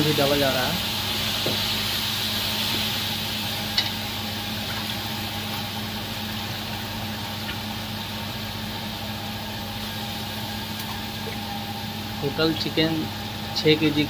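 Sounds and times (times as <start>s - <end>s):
chicken sizzling in a pan: 0.0s - 14.0s
constant low hum: 0.0s - 14.0s.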